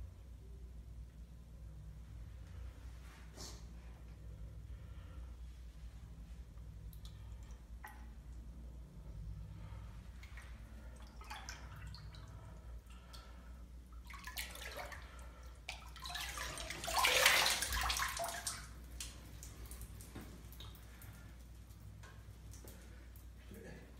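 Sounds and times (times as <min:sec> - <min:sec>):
water sloshing and dripping: 0:01.7 - 0:23.9.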